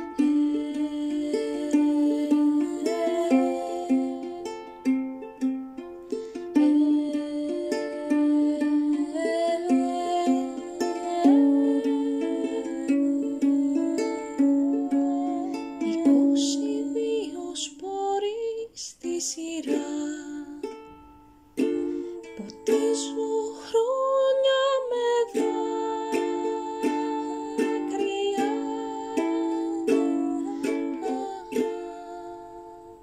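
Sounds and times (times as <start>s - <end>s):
ukulele strumming: 0.0s - 33.0s.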